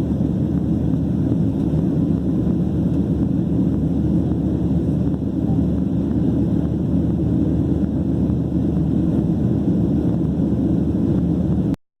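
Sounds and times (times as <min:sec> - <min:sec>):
jet engines rumbling: 0:00.0 - 0:11.8.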